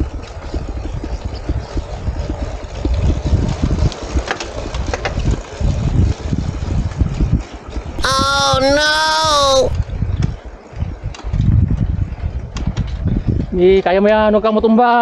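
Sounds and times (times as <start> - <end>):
wind buffeting microphone: 0.0 - 8.6, 9.7 - 14.7.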